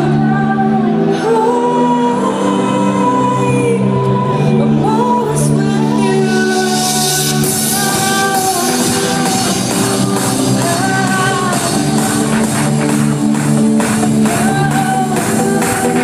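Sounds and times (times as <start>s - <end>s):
live trance music: 0.0s - 16.0s.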